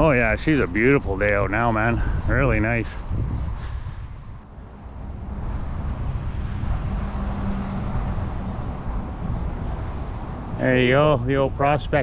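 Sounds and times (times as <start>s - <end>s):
passing vehicle engine and tyres: 0.0s - 12.0s.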